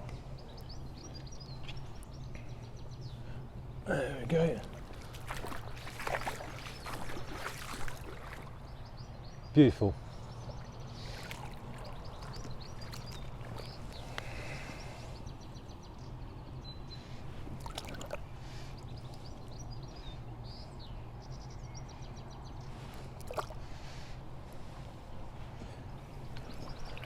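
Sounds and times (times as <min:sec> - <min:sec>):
river water running: 0:00.0 - 0:27.0
small birds chirping: 0:00.0 - 0:27.0.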